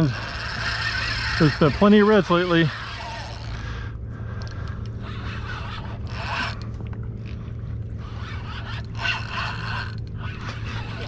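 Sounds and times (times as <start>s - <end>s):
fishing reel rasping: 0.0s - 11.0s
steady low hum: 0.0s - 11.0s.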